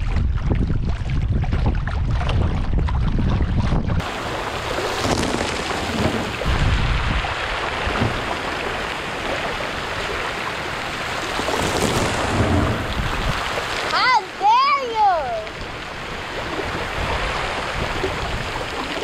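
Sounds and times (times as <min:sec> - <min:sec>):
water splashing against kayak hull: 0:00.0 - 0:19.0
wind buffeting microphone: 0:00.0 - 0:19.0.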